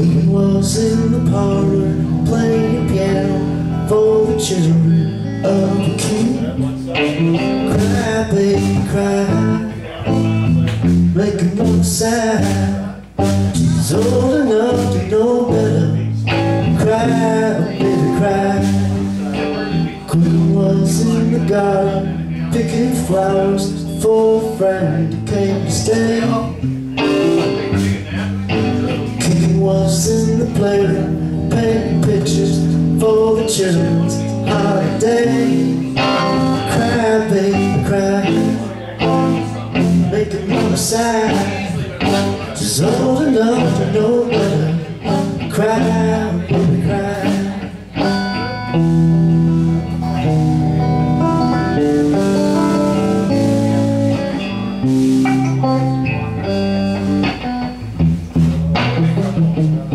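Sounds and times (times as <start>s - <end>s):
man singing: 0.0s - 57.8s
strummed electric guitar: 0.0s - 59.9s.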